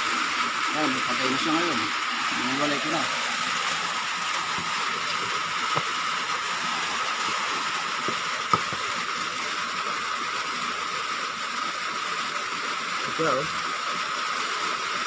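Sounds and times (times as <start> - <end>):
rain on a corrugated roof: 0.0 - 15.0.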